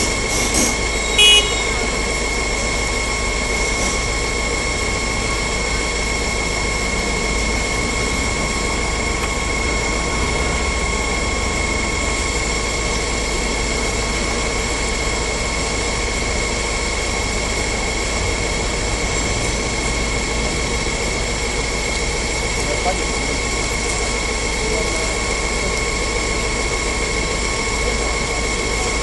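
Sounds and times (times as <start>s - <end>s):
machinery drone with high whine: 0.0s - 29.0s.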